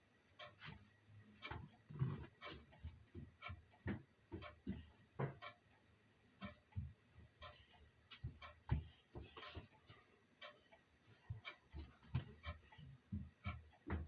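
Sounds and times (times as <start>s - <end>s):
clock ticking: 0.3s - 14.0s.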